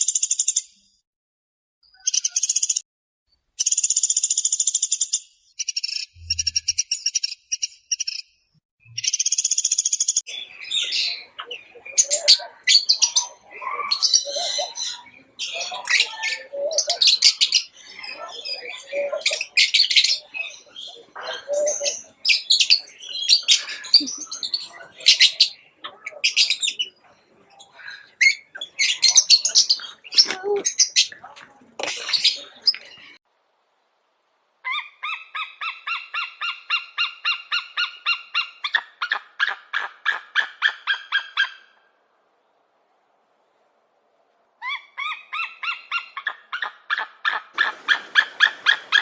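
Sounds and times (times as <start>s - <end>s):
birds chirping and squawking: 3.6s - 8.3s, 8.9s - 33.2s, 34.7s - 41.8s, 44.6s - 49.0s.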